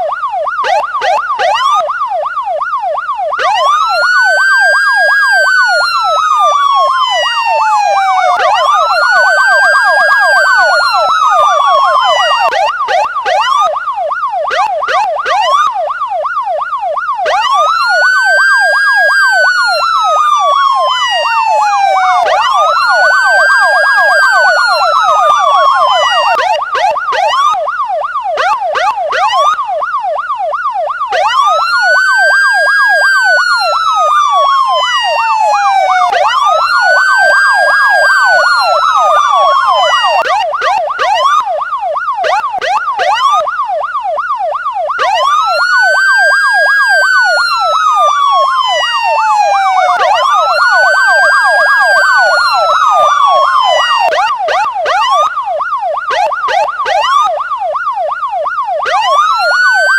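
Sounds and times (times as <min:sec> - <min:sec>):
police siren wail: 0:00.0 - 0:59.9
siren yelp: 0:00.0 - 0:59.9.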